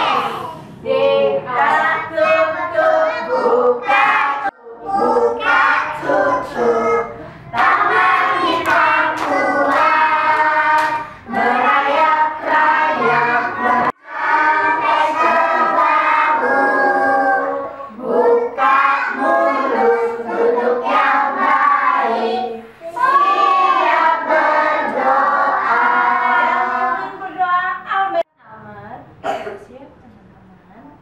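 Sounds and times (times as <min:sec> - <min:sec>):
young children singing: 0:00.0 - 0:27.4.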